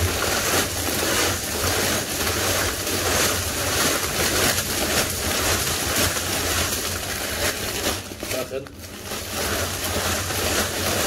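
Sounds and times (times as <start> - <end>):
coal pouring into hopper: 0.0 - 11.0
plastic sack rustling: 0.0 - 11.0.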